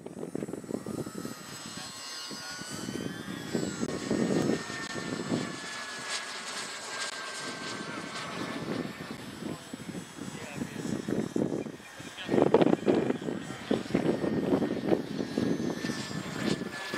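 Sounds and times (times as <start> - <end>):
jet turbine whine: 0.0 - 16.9.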